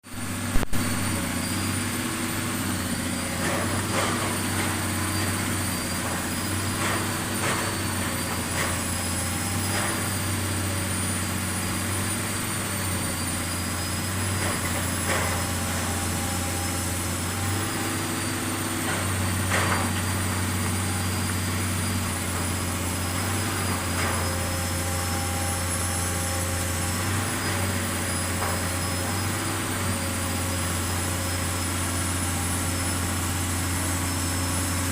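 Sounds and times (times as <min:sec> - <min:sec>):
pile driver engine humming: 0:00.1 - 0:34.9.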